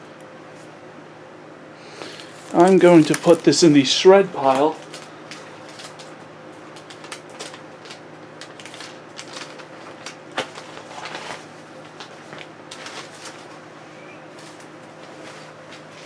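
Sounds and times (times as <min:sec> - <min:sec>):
packaging clicks and rustling: 0:02.0 - 0:13.6, 0:14.4 - 0:16.0.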